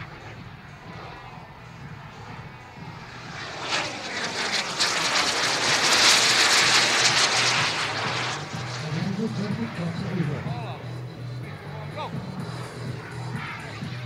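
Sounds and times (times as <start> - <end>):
model jet turbine whine: 0.0 - 14.0.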